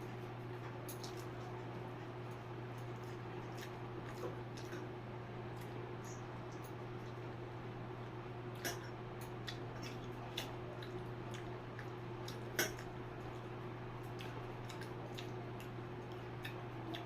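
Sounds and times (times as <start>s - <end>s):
steady low hum: 0.0s - 17.0s
person eating and chewing: 0.1s - 17.0s.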